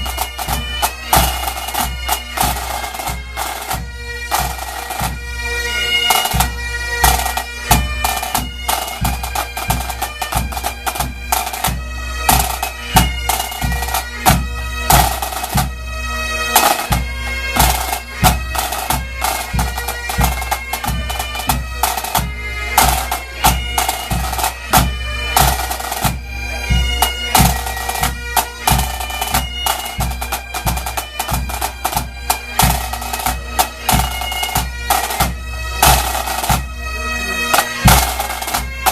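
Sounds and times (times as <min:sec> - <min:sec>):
snare and bass drums: 0:00.0 - 0:05.2, 0:06.1 - 0:15.8, 0:16.5 - 0:36.7, 0:37.5 - 0:38.9
bagpipes playing melody and drone: 0:00.0 - 0:38.9.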